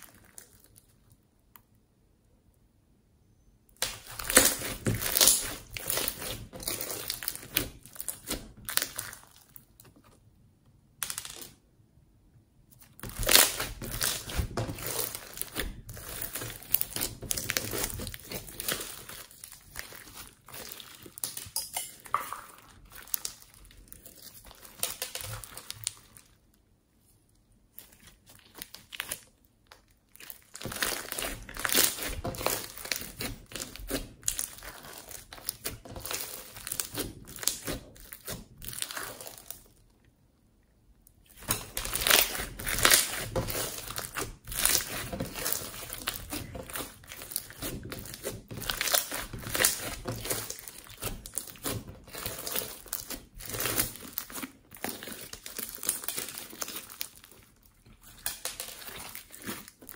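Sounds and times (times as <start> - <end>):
slime squished by hand: 3.8 - 10.2, 12.8 - 26.4, 27.7 - 39.8, 41.2 - 59.9.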